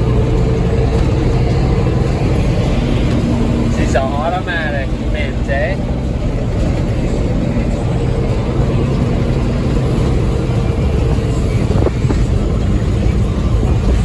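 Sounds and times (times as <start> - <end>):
road rumble: 0.0 - 14.0
truck engine: 0.0 - 14.0.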